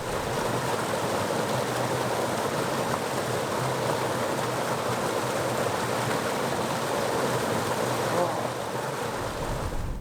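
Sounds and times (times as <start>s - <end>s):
rushing stream water: 0.0s - 10.0s.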